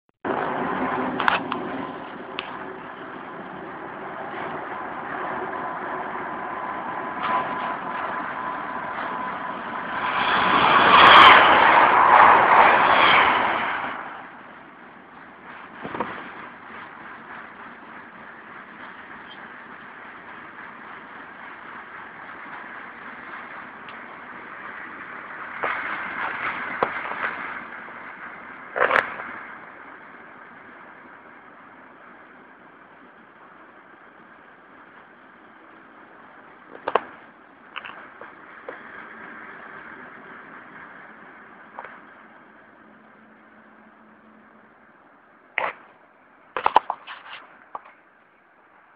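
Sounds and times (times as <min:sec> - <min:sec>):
moving train running noise: 0:00.2 - 0:48.9
wheels clicking on track: 0:00.2 - 0:48.9.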